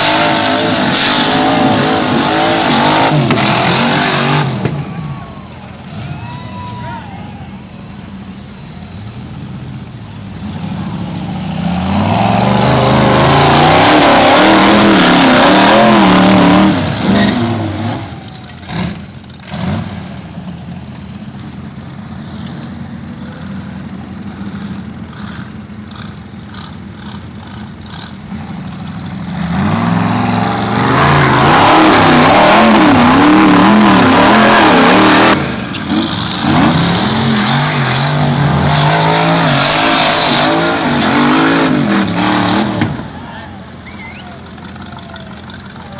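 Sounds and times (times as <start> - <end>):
buggy engine revving: 0.0 - 45.9.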